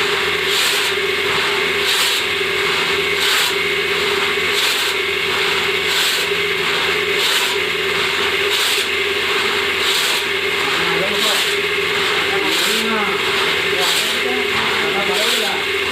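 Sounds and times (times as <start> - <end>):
hand saw cutting wood: 0.0 - 15.9.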